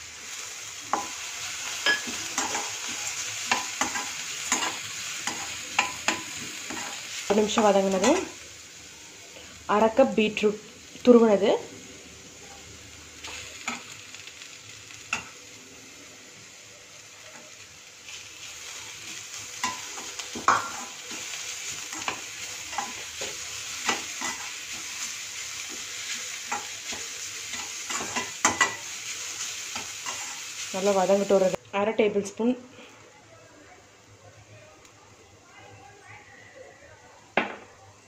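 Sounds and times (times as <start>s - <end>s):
vegetables sizzling in oil: 0.0s - 33.1s.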